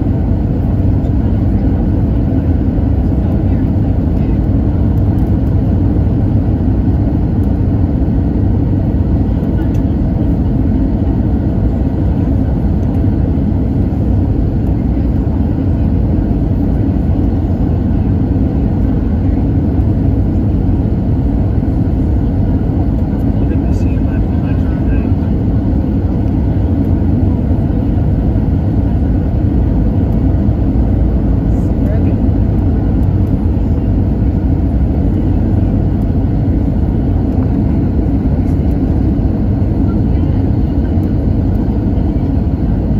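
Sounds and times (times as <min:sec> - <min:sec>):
aircraft cabin engine rumble: 0:00.0 - 0:42.9.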